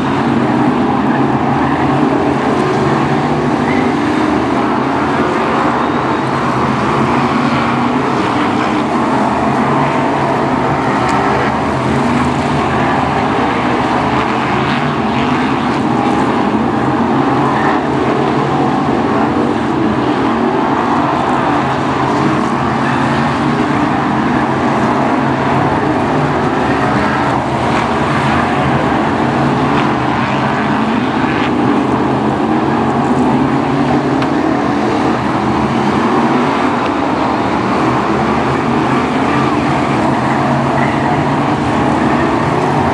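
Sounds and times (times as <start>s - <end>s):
racing car engines din: 0.0s - 42.9s.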